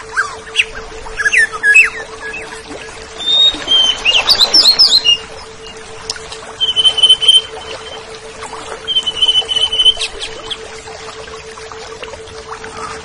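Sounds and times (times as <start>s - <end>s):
thrush singing: 0.0s - 10.9s
rapid trilled bird notes: 0.0s - 11.7s
steady low hum: 0.0s - 13.0s.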